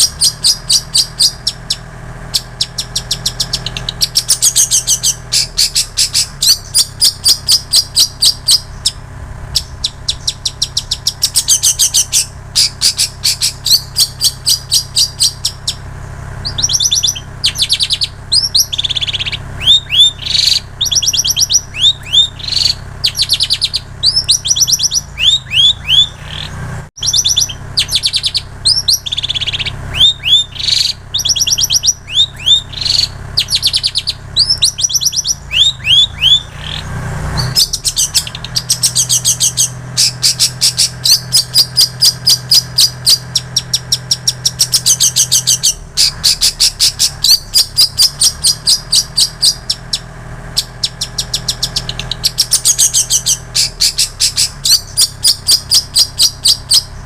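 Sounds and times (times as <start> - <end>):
shrike singing mimicked song: 0.0 - 57.0
steady low hum: 0.0 - 57.0.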